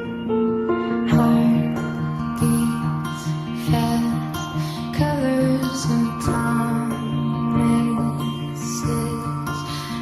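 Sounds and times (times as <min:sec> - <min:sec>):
plucked strings: 0:00.0 - 0:10.0.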